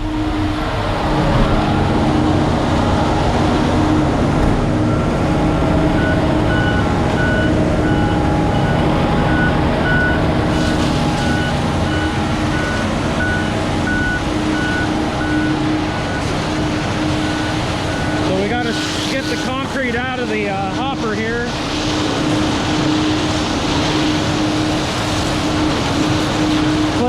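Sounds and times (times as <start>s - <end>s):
diesel truck engine running: 0.0s - 27.0s
reversing alarm beeping: 1.7s - 27.0s.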